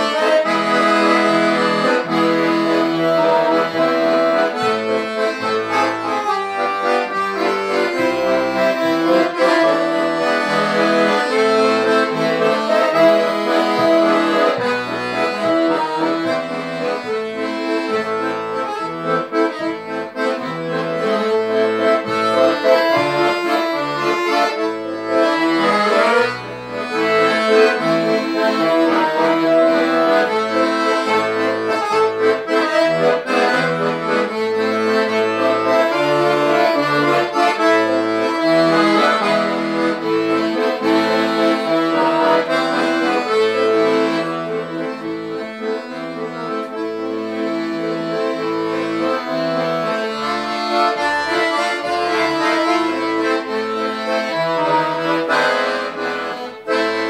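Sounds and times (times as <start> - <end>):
piano accordion playing: 0.0 - 57.0.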